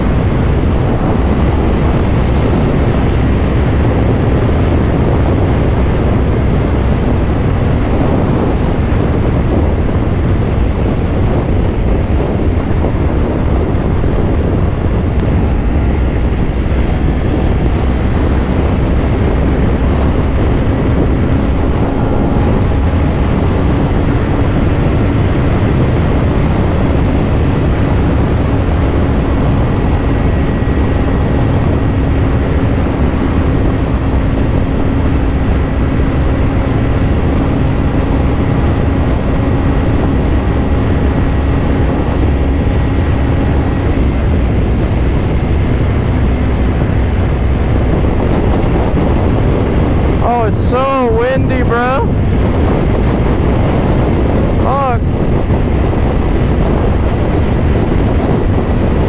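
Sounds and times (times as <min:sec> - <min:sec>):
motorcycle engine cruising: 0:00.0 - 0:59.0
wind rush over microphone: 0:00.0 - 0:59.0.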